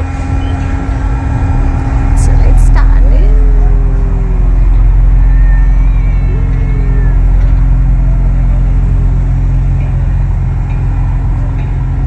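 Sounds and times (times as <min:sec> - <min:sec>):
ferry engine drone: 0:00.0 - 0:12.0.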